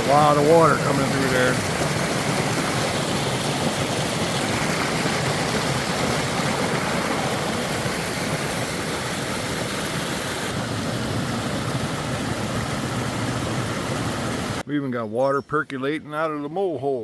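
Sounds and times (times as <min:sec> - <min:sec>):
floodwater rushing through channel: 0:00.0 - 0:14.6.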